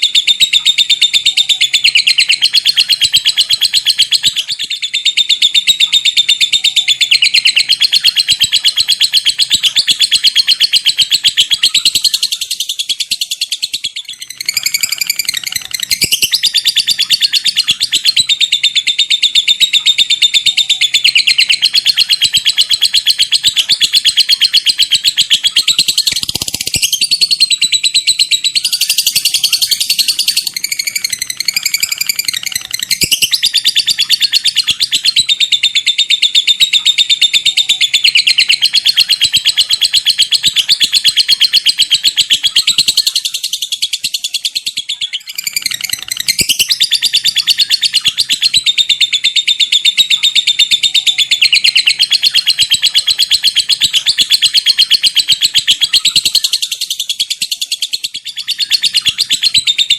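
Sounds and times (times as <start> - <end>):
lovebird chattering: 0.0 - 59.9.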